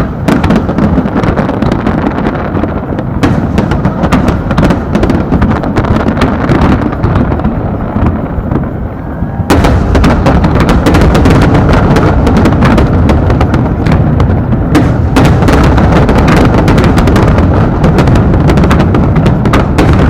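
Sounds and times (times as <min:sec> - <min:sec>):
fireworks cracking and booming: 0:00.0 - 0:20.0.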